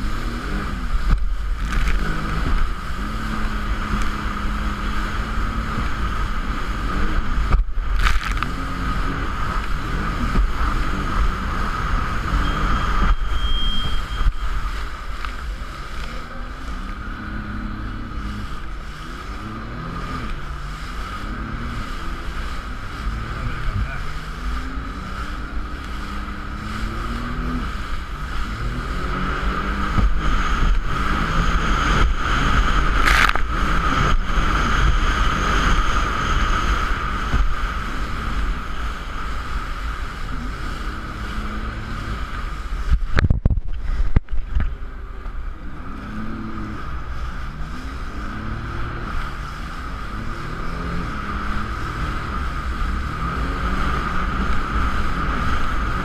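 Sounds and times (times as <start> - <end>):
jet ski engine running: 0.0 - 56.0
rushing water: 0.0 - 56.0
wind on microphone: 0.0 - 56.0.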